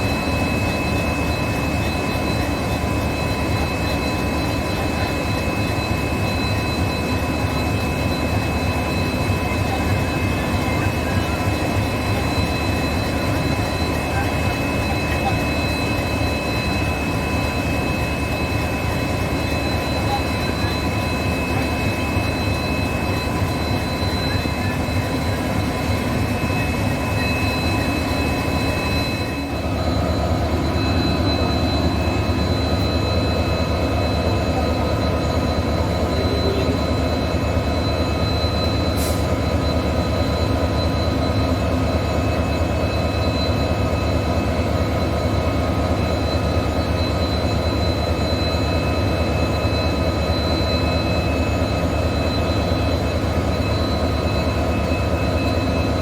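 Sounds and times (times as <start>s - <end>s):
diesel locomotive engine rumbling: 0.0s - 56.0s
high-pitched engine whine: 0.0s - 56.0s.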